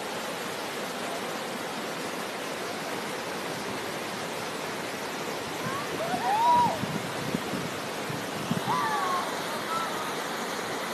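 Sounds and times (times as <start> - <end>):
river rapids rushing: 0.0 - 10.9.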